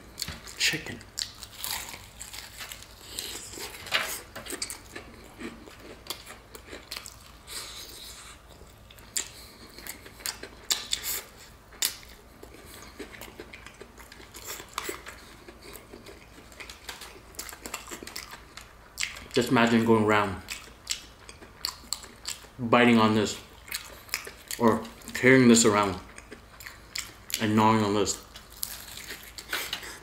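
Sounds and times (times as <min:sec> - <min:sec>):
person chewing crispy fried food: 0:00.1 - 0:19.5, 0:20.3 - 0:22.6, 0:23.3 - 0:27.5, 0:28.1 - 0:30.0.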